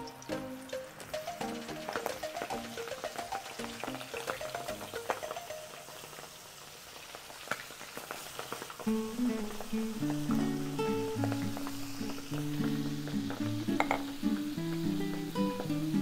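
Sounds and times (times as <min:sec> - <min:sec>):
background music: 0:00.0 - 0:06.1, 0:08.9 - 0:16.0
squid deep-frying in oil: 0:00.0 - 0:16.0.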